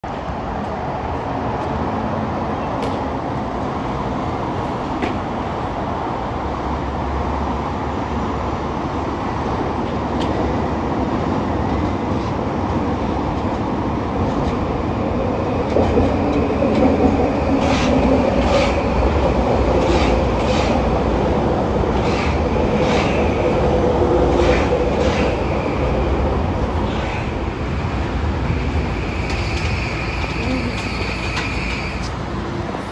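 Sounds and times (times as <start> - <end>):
train rumbling past: 0.1 - 32.9.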